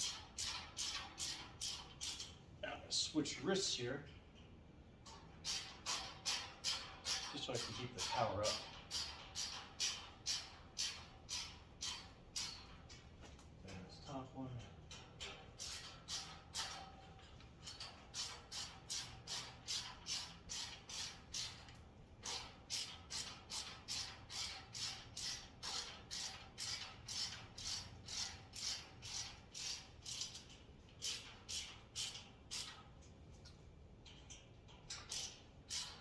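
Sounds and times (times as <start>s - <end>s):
hand ratchet clicking: 0.0s - 2.4s, 5.0s - 33.2s, 34.0s - 36.0s.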